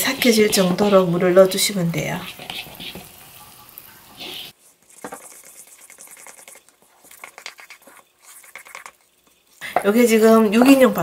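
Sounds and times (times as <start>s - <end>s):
wooden spoon stirring and scraping: 0.0s - 11.0s.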